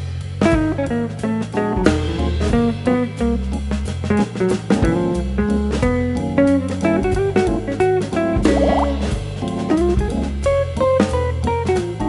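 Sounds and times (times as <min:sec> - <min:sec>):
upbeat instrumental music: 0:00.1 - 0:12.0.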